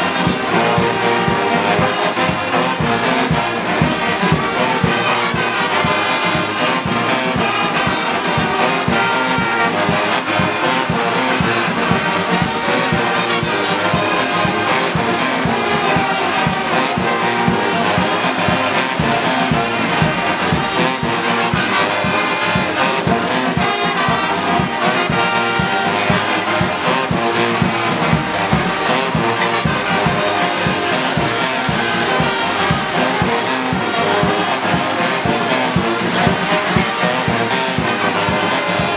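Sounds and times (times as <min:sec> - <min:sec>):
brass band music: 0:00.0 - 0:38.9.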